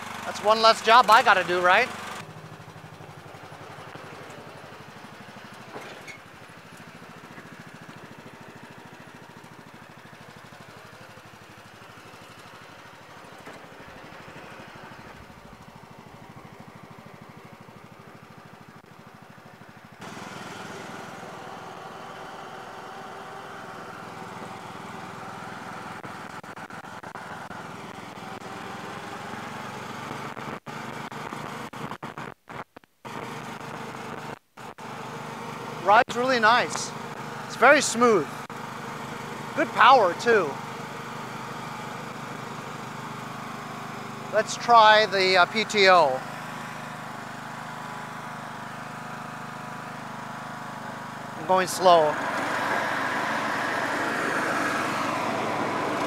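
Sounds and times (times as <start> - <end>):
lawn tractor engine running: 0.0 - 32.2, 33.0 - 56.0.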